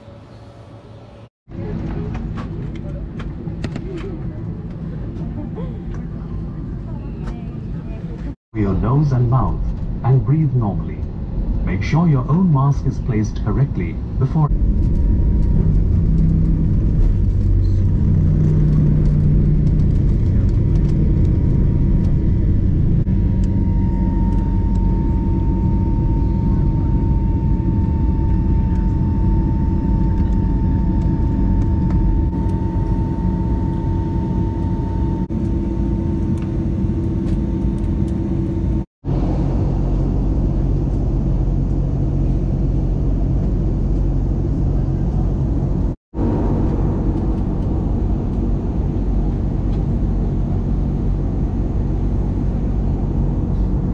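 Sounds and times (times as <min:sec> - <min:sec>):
jet engines rumbling with whine: 0:00.0 - 0:53.9.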